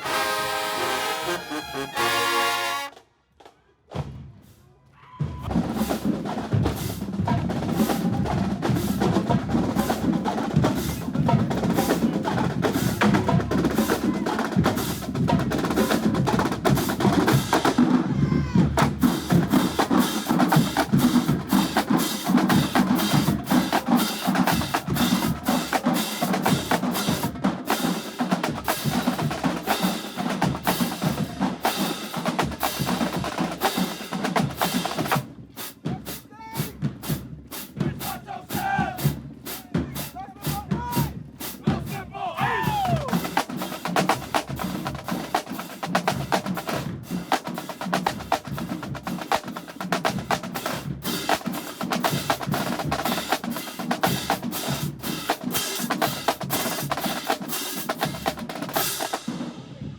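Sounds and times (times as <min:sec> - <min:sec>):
snare drum rolls: 0:00.0 - 0:04.6, 0:05.2 - 0:59.9.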